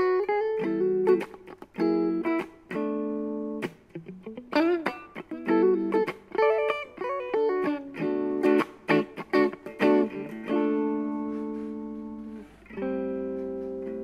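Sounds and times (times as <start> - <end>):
electric guitar playing: 0.0 - 14.0.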